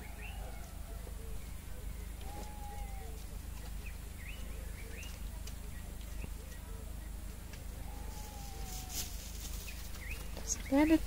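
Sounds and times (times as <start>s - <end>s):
faint chirping calls: 0.0s - 11.0s
steady low hum: 0.0s - 11.0s.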